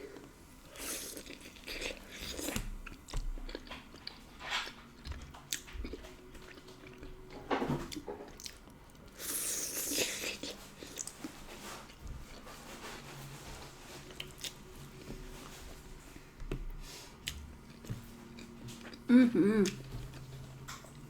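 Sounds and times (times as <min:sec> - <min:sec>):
close chewing and biting: 0:00.2 - 0:15.8, 0:16.5 - 0:21.0.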